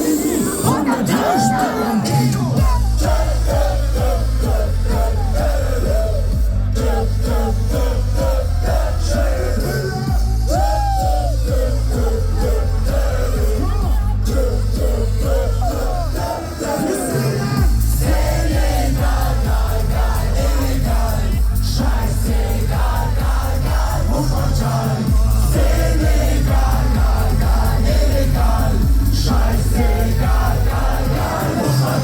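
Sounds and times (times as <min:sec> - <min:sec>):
party music with pulsing bass: 0:00.0 - 0:32.0
people singing: 0:00.0 - 0:32.0.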